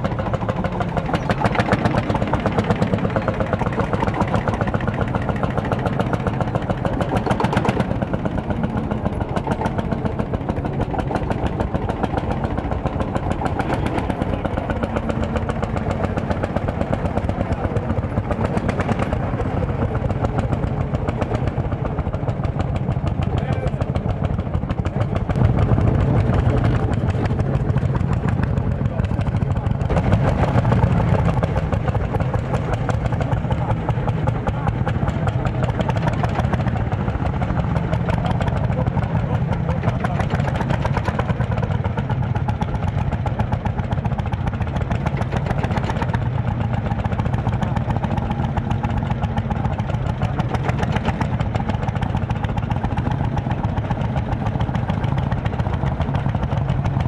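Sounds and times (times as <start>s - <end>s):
tractor engines running: 0.0s - 57.0s.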